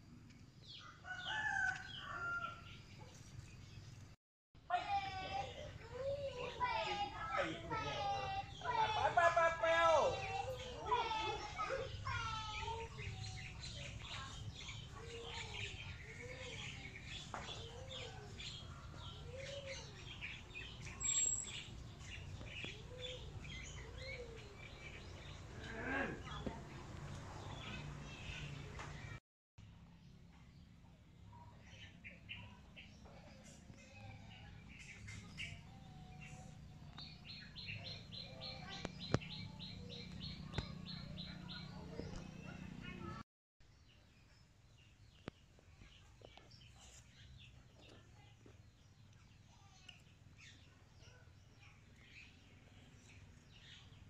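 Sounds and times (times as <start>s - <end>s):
birds chirping: 4.9s - 29.2s, 29.9s - 54.0s.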